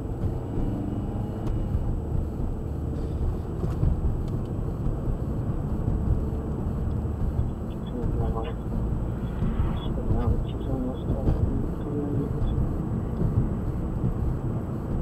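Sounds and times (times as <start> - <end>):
low rumble of tyres and engine: 0.0 - 15.0.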